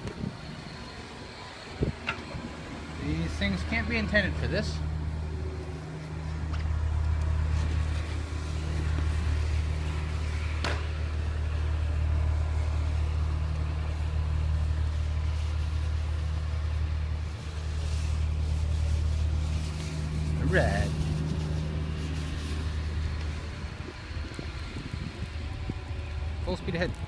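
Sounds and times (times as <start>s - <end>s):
segway motor hum and rumble: 0.0s - 27.0s.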